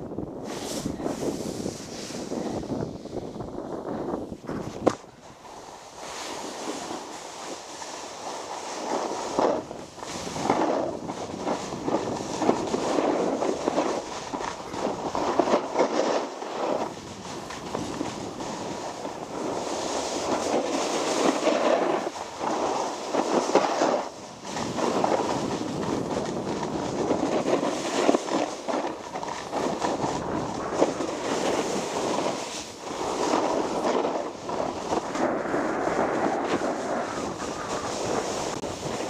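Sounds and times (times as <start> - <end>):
snowboard scraping over snow: 0.0 - 39.0.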